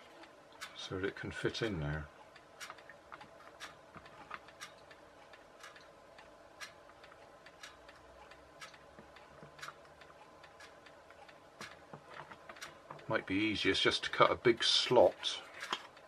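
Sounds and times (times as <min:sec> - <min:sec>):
clock ticking: 0:00.0 - 0:16.0.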